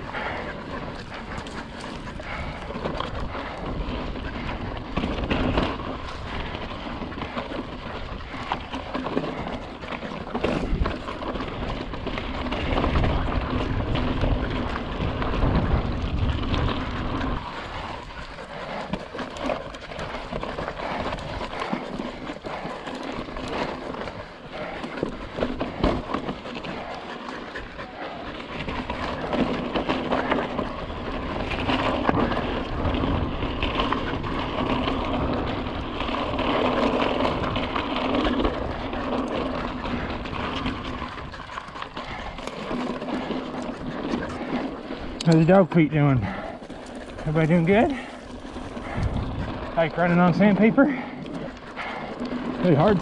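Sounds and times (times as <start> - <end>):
bike frame rattling: 0.0 - 53.0
bike tyres crunching on gravel: 0.0 - 53.0.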